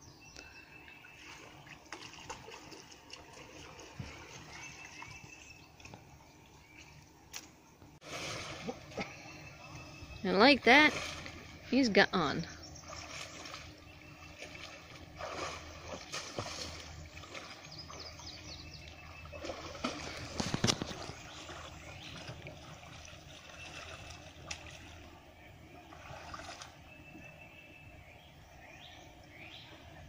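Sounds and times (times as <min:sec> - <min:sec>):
water splashing and sloshing: 0:00.9 - 0:09.7, 0:10.3 - 0:27.4.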